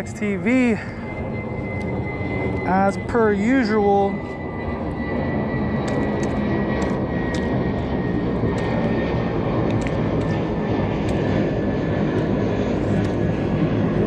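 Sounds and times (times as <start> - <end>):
small airplane engine drone: 0.0 - 14.0.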